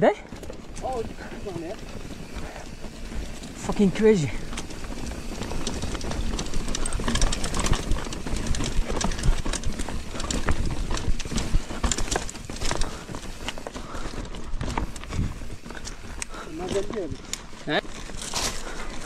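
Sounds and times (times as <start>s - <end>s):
bike rattling over bumps: 0.0s - 19.0s.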